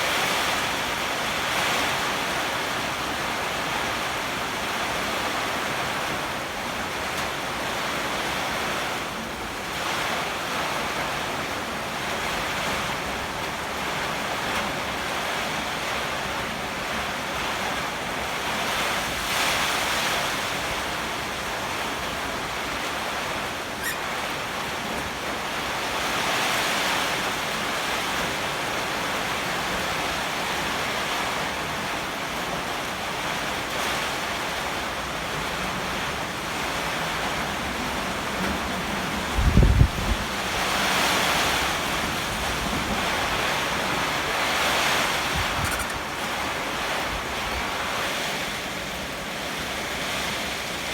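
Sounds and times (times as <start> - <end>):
heavy rain: 0.0 - 50.9
strong wind gusts: 7.5 - 50.9.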